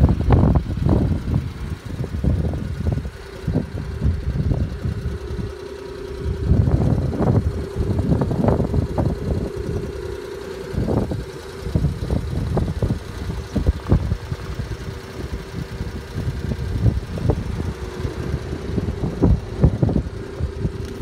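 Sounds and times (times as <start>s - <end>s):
small truck engine idling: 0.0s - 21.0s
wind buffeting microphone: 0.0s - 21.0s.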